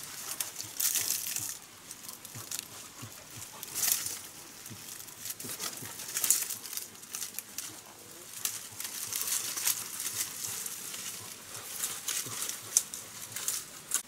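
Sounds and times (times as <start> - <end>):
rustling and crinkling: 0.0 - 14.0.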